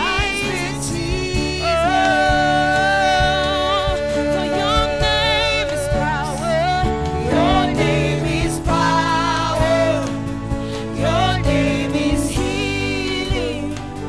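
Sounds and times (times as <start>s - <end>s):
woman singing gospel: 0.0s - 10.2s, 10.9s - 14.0s
instrumental accompaniment: 0.0s - 14.0s.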